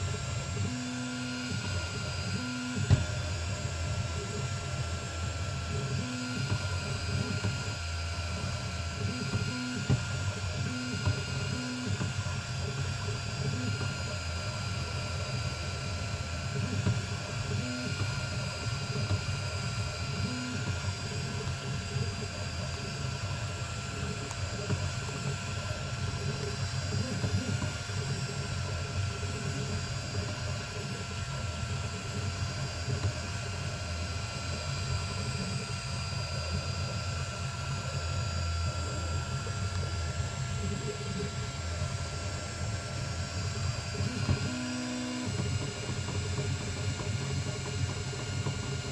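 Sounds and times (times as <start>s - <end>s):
laser engraver whirring: 0.0s - 48.9s
low unsteady hum: 0.0s - 48.9s.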